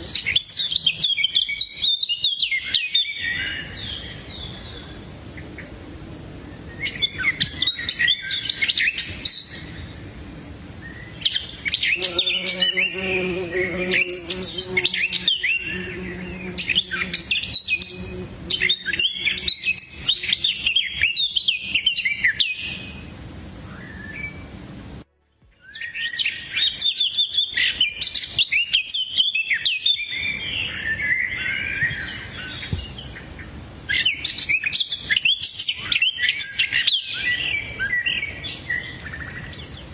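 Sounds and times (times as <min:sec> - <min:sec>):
birds chirping and twittering: 0:00.0 - 0:05.8, 0:06.4 - 0:24.6, 0:25.3 - 0:39.9.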